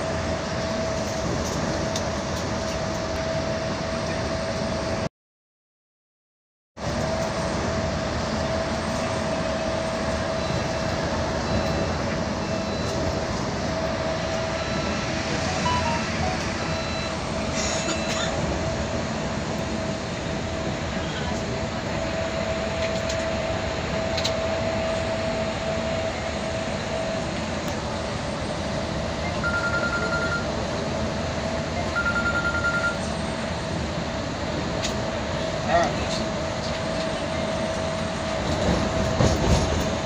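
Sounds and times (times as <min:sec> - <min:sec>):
bus road and engine noise: 0:00.0 - 0:05.1, 0:06.8 - 0:40.0.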